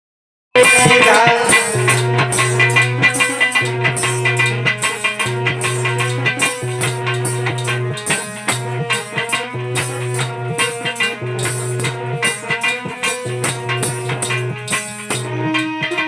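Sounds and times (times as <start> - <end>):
instrumental music with drum beat: 0.6 - 16.0.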